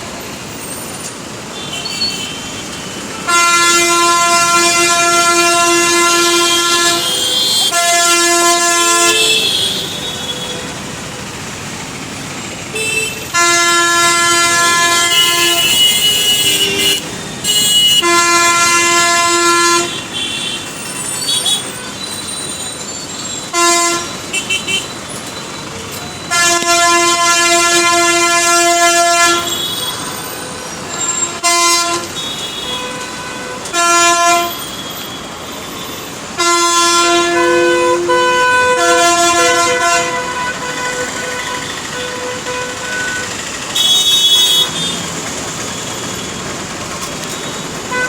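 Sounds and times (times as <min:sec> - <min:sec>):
traffic noise: 0:00.0 - 0:48.0
vehicle horns honking: 0:01.6 - 0:10.9, 0:12.6 - 0:45.2, 0:47.2 - 0:48.0.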